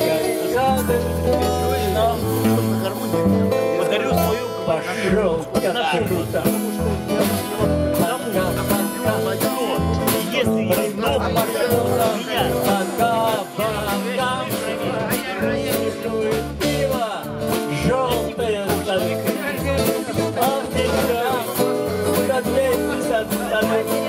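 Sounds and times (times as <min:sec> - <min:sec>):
live band with guitars: 0:00.0 - 0:24.0.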